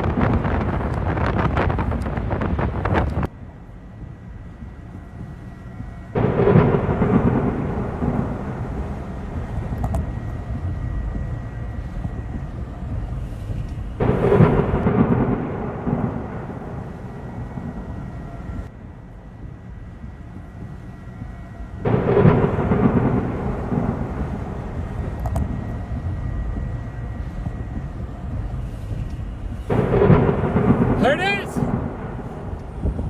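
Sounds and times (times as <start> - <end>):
thunder claps: 0.0 - 3.3, 4.0 - 18.7, 19.4 - 33.0
low steady rumble: 0.0 - 33.0.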